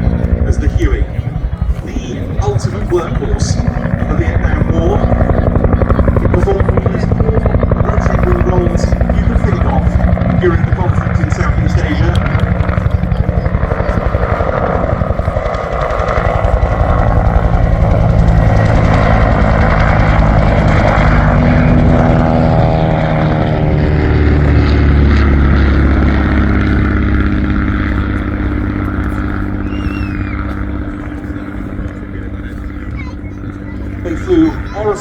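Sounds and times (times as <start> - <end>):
helicopter flying past: 0.0 - 35.0.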